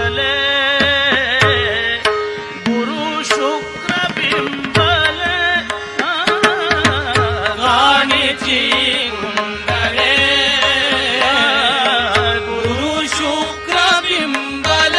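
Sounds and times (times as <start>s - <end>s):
tabla strokes: 0.8s - 14.9s.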